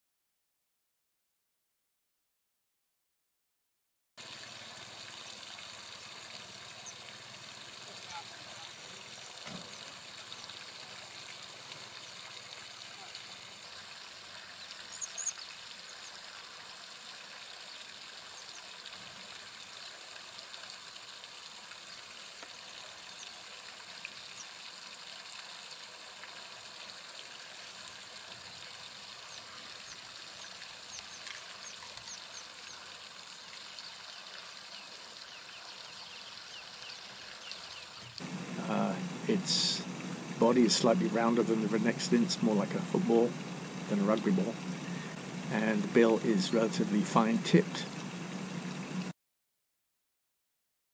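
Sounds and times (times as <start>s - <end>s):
even outdoor hiss: 4.2s - 49.1s.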